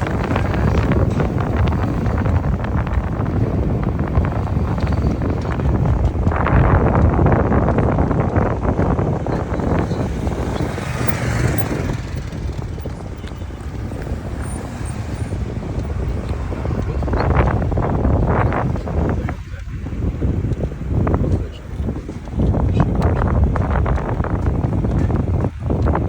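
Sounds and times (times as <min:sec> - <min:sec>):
storm wind buffeting microphone: 0:00.0 - 0:26.0.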